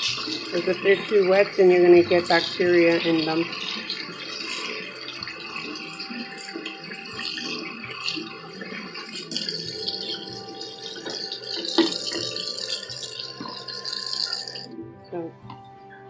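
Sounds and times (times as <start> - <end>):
water running and trickling: 0.0 - 16.0.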